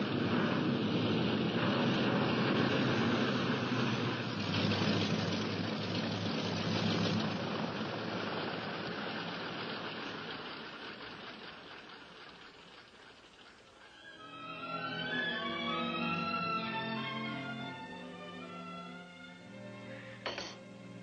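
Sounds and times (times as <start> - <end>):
propeller plane engines taxiing: 0.0 - 21.0.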